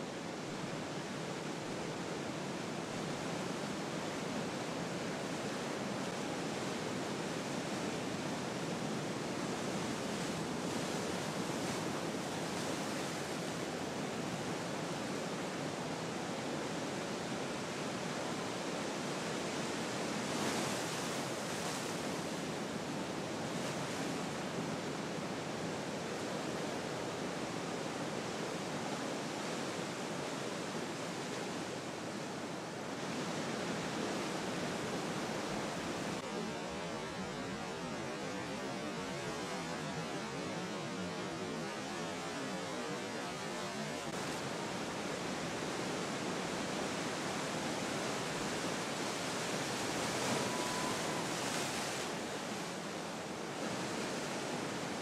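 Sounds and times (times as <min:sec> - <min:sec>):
ocean surf washing: 0:00.0 - 0:55.0.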